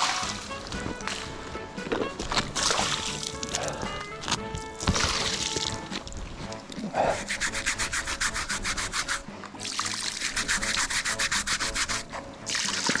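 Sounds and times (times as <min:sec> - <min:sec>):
rhythmic scrubbing strokes: 0:00.0 - 0:13.0.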